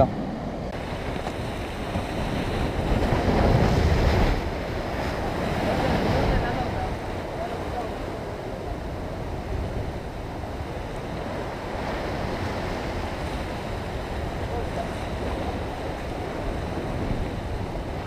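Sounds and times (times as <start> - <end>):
wind buffeting microphone: 0.0 - 18.0
surf breaking against rocks: 0.7 - 18.0.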